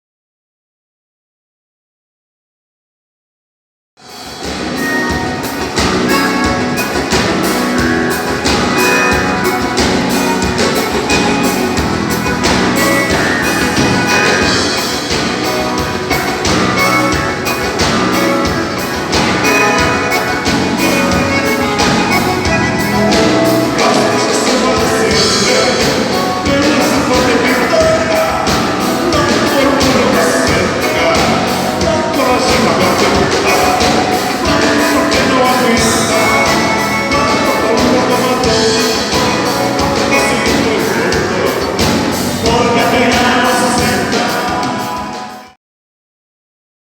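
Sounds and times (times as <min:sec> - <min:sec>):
dance band playing: 0:04.0 - 0:45.6.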